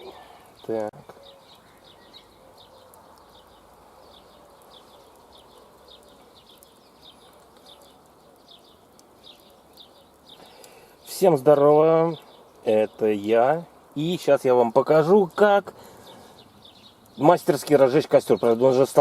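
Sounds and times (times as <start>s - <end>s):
small bird chirping: 0.0s - 14.0s, 15.1s - 19.0s.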